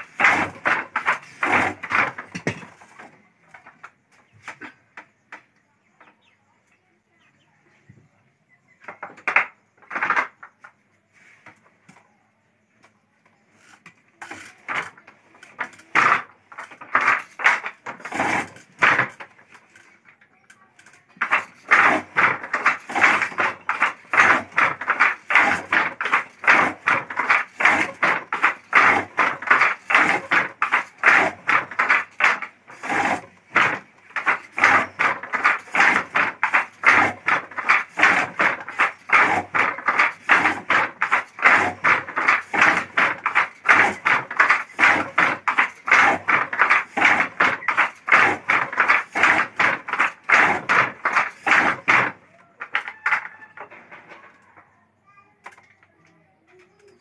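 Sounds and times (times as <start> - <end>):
handloom wooden clatter: 0.0 - 5.4, 8.8 - 12.0, 13.5 - 54.6.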